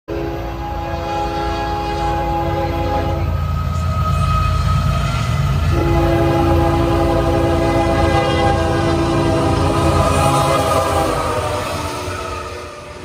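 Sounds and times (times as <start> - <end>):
train air horn blast: 0.1 - 12.9
diesel locomotive rumble: 0.1 - 13.0.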